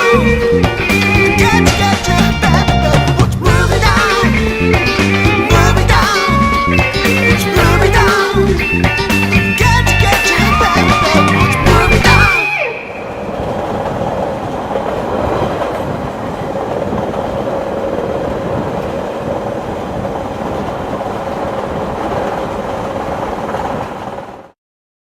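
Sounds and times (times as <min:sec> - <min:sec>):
train rumbling on rails: 0:00.0 - 0:24.6.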